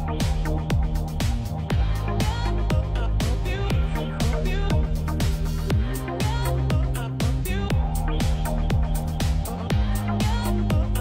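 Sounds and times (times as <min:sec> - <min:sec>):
electronic dance music: 0:00.0 - 0:11.0
kick drum: 0:00.0 - 0:11.0
sustained bass line: 0:00.0 - 0:11.0.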